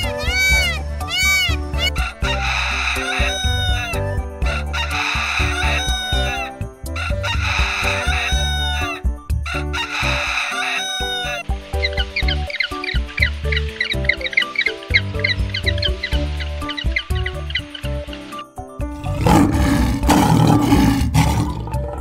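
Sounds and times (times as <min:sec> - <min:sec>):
large bird harsh crowing calls: 0:00.0 - 0:18.3, 0:19.0 - 0:21.8
background music: 0:00.0 - 0:22.0.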